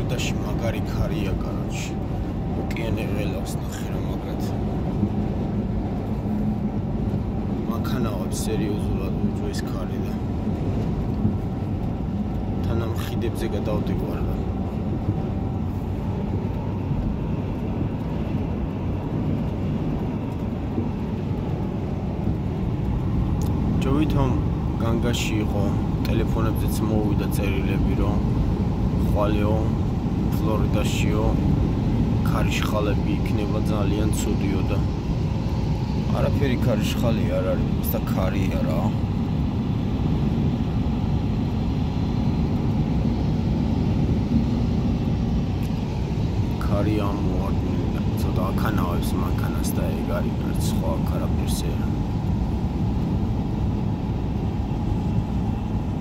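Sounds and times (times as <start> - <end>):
road and engine rumble in cab: 0.0 - 56.0.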